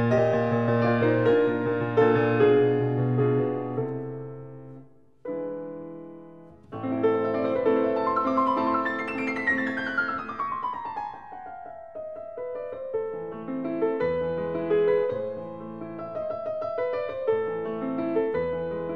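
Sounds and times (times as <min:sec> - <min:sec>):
piano music: 0:00.0 - 0:18.9.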